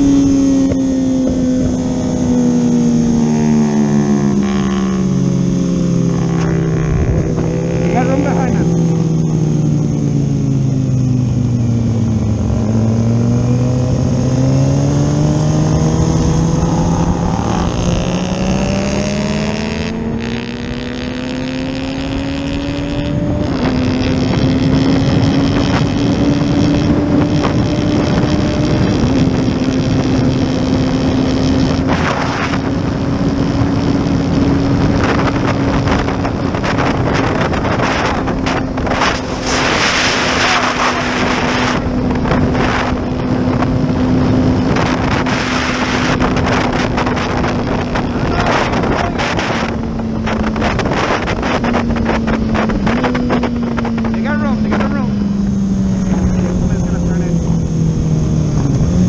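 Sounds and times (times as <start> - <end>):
motorcycle engine accelerating: 0.0 - 59.0
wind noise on microphone: 0.0 - 59.0.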